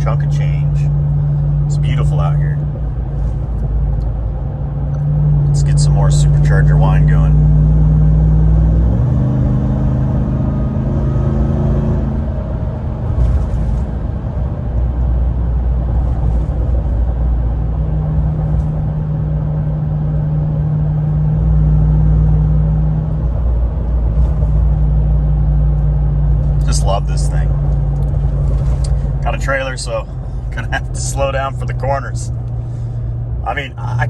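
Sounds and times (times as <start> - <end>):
road rumble: 0.0 - 34.0.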